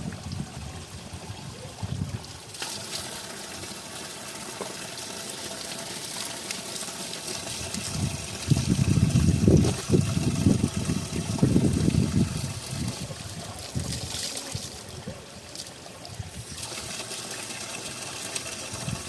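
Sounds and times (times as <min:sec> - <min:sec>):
spring water running: 0:00.0 - 0:19.0.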